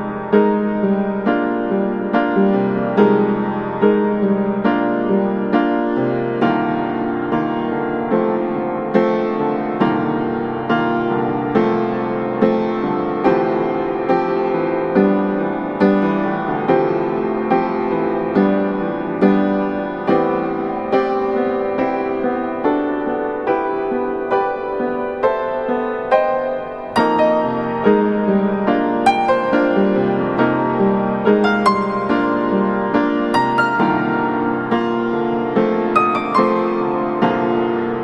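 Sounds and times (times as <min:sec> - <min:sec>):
slow piano music: 0:00.0 - 0:38.0.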